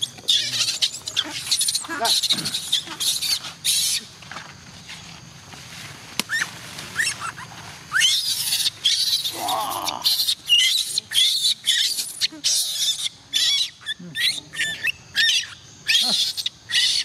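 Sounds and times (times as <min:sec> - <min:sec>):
baby monkey chirping: 0:00.0 - 0:04.1, 0:06.3 - 0:17.0
baby monkey squealing: 0:00.0 - 0:04.1, 0:06.3 - 0:17.0.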